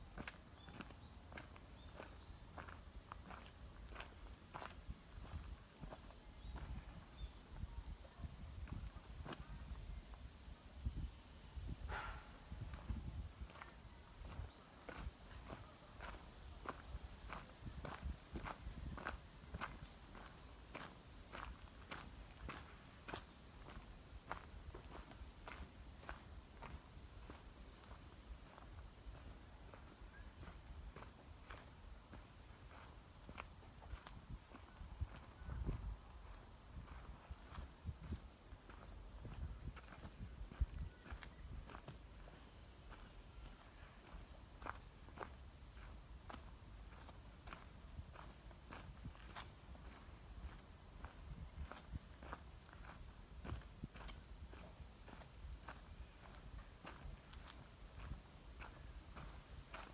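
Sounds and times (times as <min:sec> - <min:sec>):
insects droning: 0:00.0 - 0:59.9
footsteps on forest trail: 0:00.1 - 0:07.3, 0:13.3 - 0:59.9.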